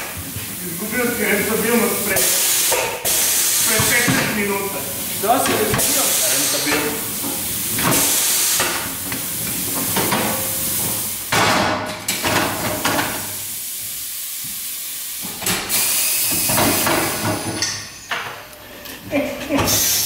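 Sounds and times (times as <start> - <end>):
compressed air hissing: 0.0 - 11.3, 12.5 - 18.1, 19.6 - 20.0.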